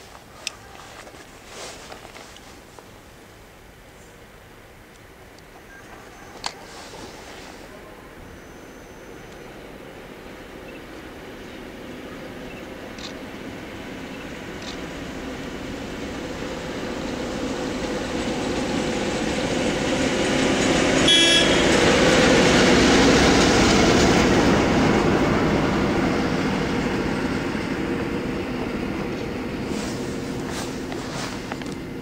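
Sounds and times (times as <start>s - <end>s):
passenger train passing: 3.3s - 32.0s.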